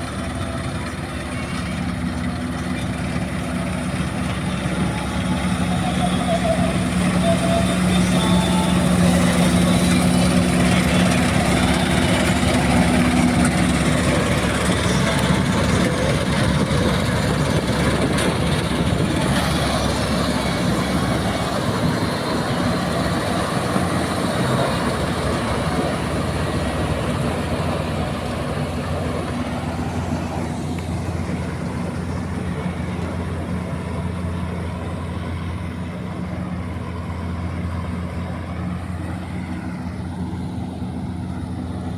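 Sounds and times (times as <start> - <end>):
combine harvester engine hum: 0.0 - 41.9.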